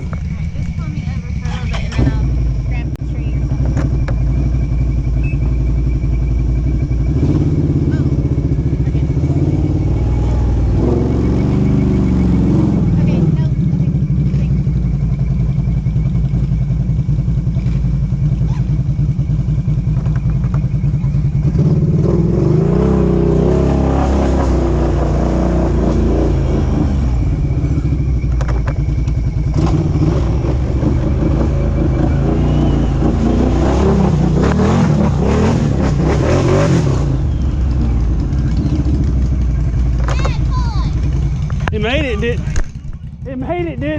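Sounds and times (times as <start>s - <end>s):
atv engine revving: 0.0s - 43.9s.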